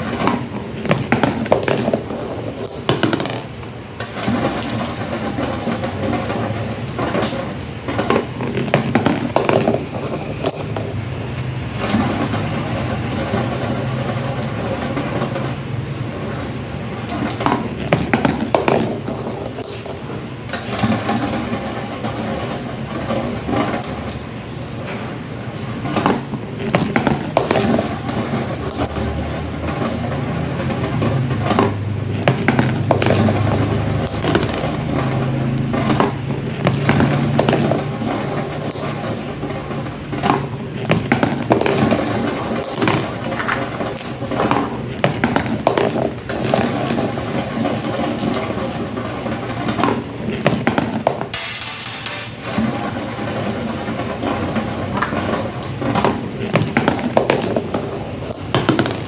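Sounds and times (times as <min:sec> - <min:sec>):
marbles clicking: 0:00.0 - 0:15.8, 0:16.7 - 0:24.9, 0:25.8 - 0:59.0
marbles rolling on a track: 0:00.0 - 0:59.0.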